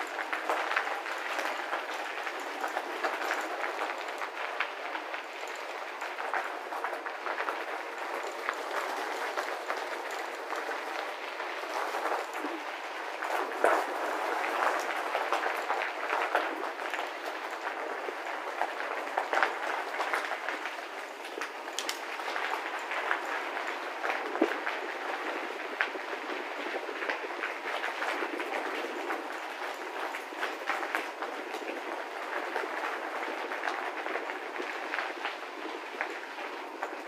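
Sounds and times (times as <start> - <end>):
bicycle tyres crunching on gravel: 0.0 - 37.0.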